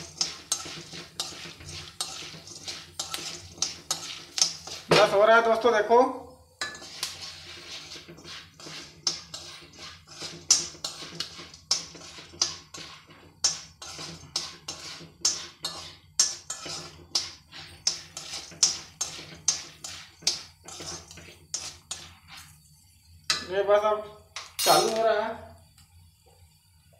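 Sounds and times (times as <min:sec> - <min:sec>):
metal spoon scraping a pan: 0:00.0 - 0:05.8, 0:06.6 - 0:23.8, 0:24.4 - 0:25.1.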